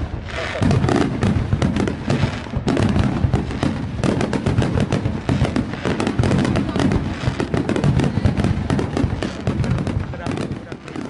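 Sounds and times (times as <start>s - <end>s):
fireworks cracking and banging: 0.0s - 11.0s.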